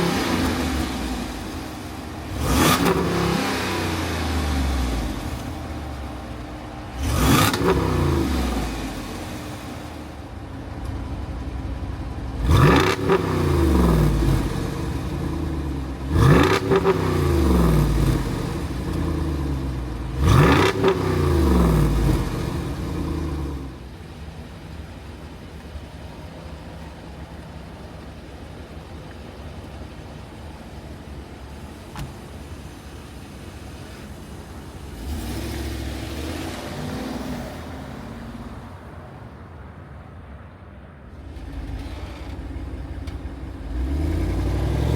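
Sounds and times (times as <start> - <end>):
car engine running: 0.0 - 39.3, 41.1 - 44.9
car engine revving: 0.0 - 39.4, 41.1 - 44.9.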